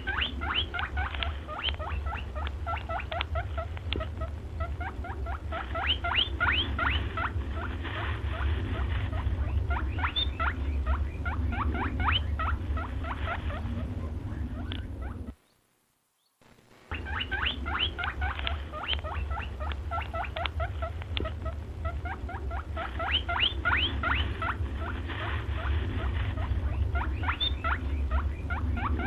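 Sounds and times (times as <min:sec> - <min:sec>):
high squeaky chirps: 0:00.0 - 0:07.7, 0:09.1 - 0:15.4, 0:16.9 - 0:25.0, 0:26.3 - 0:29.0
low wind rumble: 0:00.0 - 0:15.4, 0:16.9 - 0:29.0.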